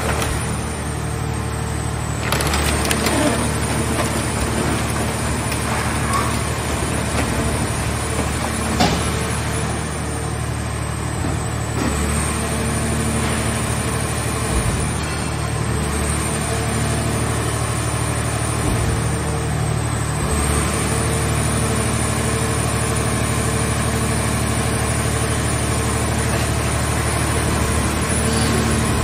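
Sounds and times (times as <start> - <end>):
hydraulic baler running: 0.0 - 29.0.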